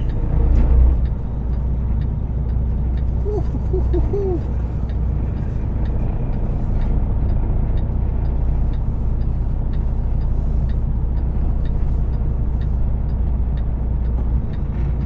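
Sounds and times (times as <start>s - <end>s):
faint regular ticking: 0.0s - 15.0s
truck diesel engine running: 0.0s - 15.0s.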